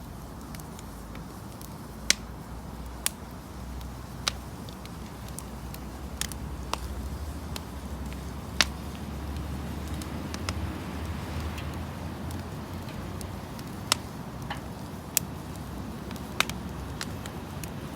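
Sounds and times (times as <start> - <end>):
bonfire crackling and popping: 0.0 - 17.9
low rumble of wind: 0.0 - 17.9.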